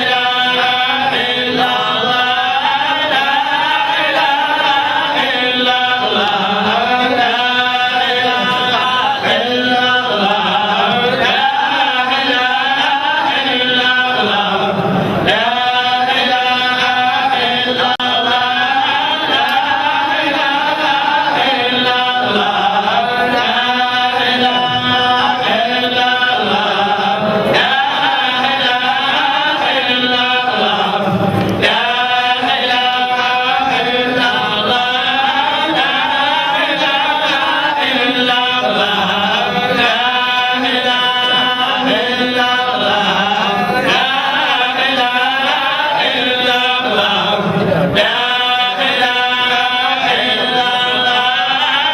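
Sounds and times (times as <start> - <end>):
men chanting devotional song: 0.0 - 51.9.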